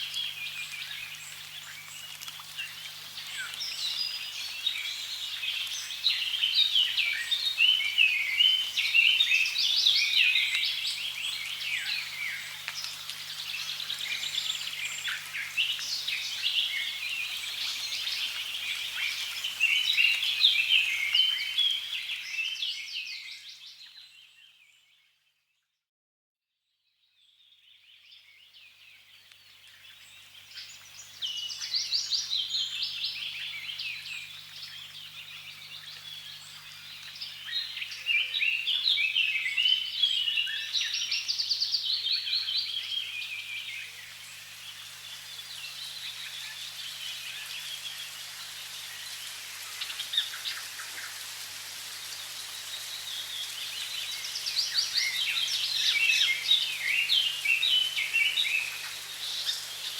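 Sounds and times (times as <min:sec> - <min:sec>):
running water hiss: 0:00.0 - 0:24.2, 0:28.6 - 0:59.9
small birds chirping and singing: 0:00.0 - 0:25.1, 0:27.0 - 0:59.9.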